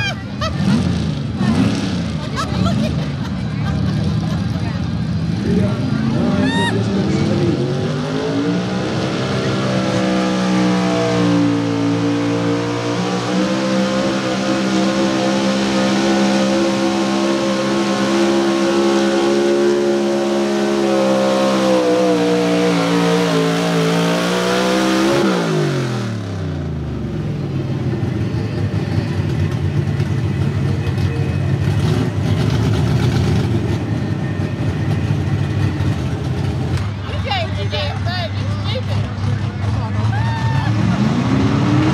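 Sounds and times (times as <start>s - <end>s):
truck engine at high revs: 0.0s - 41.9s.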